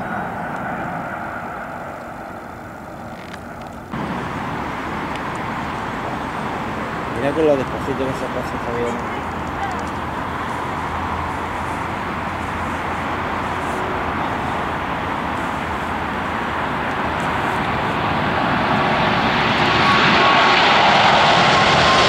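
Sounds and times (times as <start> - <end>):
jet airliner engine noise: 0.0 - 22.0
jet engine whine: 0.0 - 22.0.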